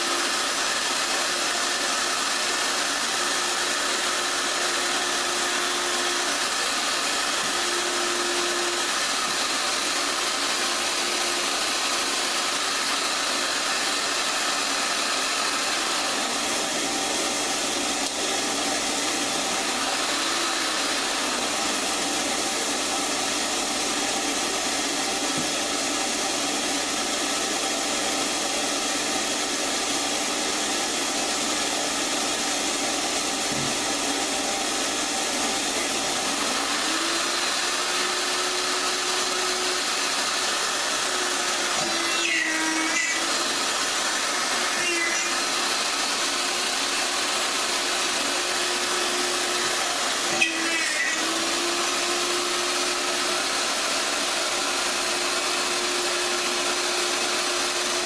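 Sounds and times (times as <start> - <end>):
router whining: 0.0 - 58.0.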